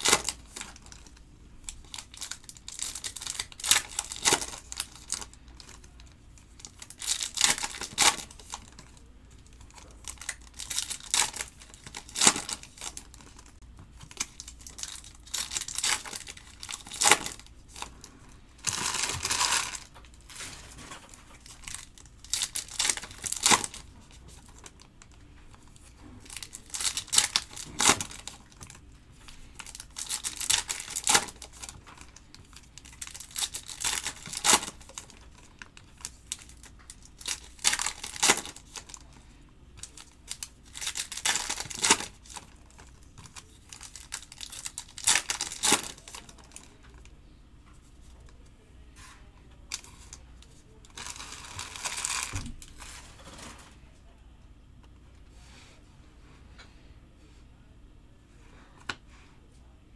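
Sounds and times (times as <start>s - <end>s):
foil wrappers tearing and crinkling: 0.0s - 39.2s, 39.8s - 47.1s, 50.9s - 53.6s.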